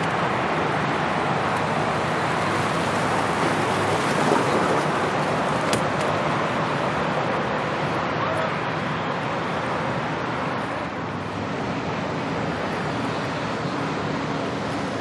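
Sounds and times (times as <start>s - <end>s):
rushing outdoor noise: 0.0s - 15.0s.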